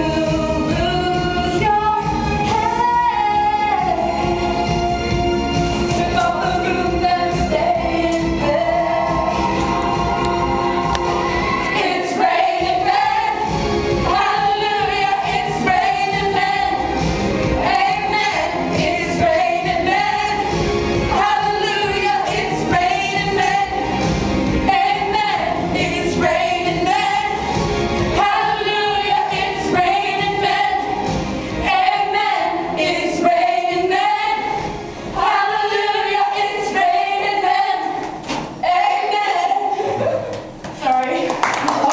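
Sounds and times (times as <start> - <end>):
girls singing pop: 0.0 - 41.9.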